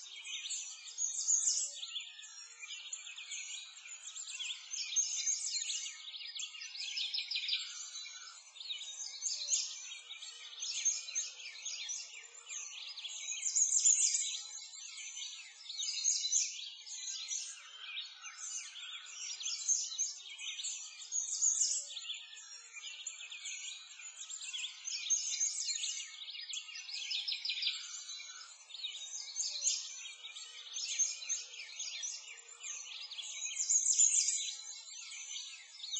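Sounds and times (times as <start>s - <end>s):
many birds chirping and singing: 0.0s - 35.9s.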